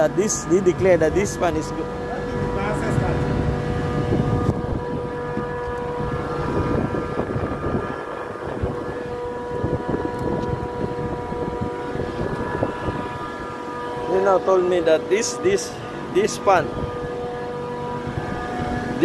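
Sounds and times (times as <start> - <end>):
chiller machine hum: 0.0 - 19.0
wind on microphone: 0.7 - 14.1, 15.4 - 19.0.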